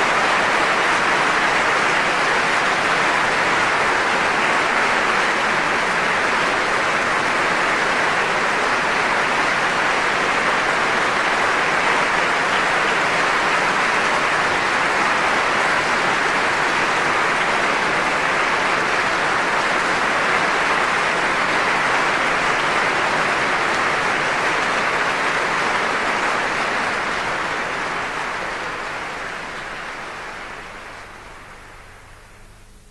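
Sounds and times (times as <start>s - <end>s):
large audience applauding: 0.0s - 31.6s.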